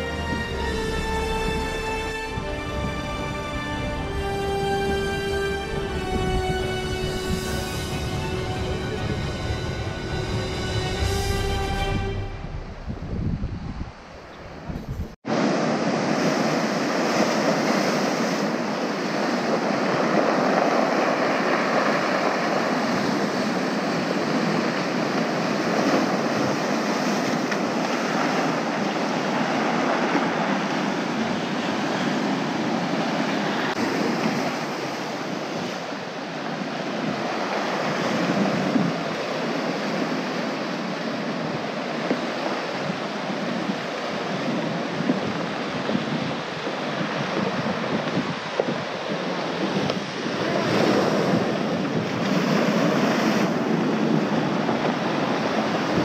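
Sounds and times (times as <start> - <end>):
ocean surf breaking on rocks: 0.0 - 56.0.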